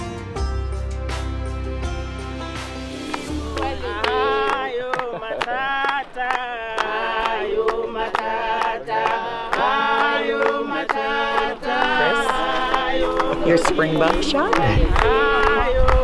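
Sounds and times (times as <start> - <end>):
group singing together: 3.0 - 16.0
hand claps: 3.0 - 16.0.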